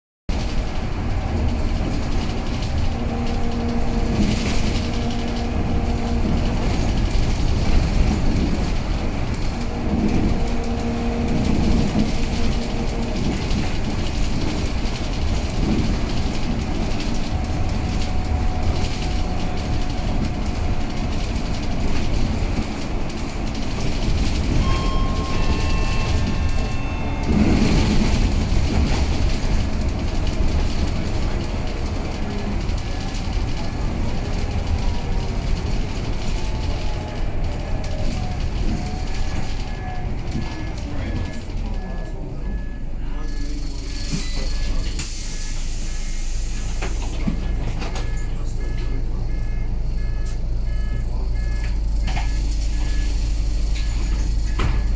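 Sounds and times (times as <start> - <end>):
bus engine and road rumble: 0.3 - 54.9.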